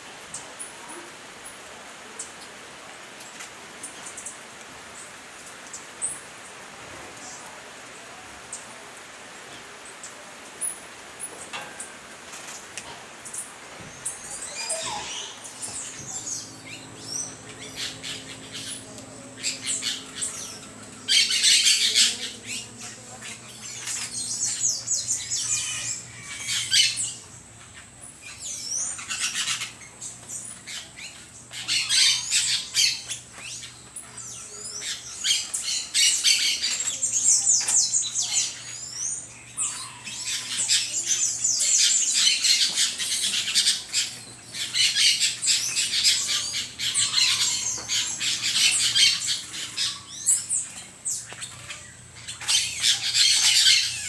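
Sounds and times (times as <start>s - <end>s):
birds squawking and chirping: 10.6s - 54.0s.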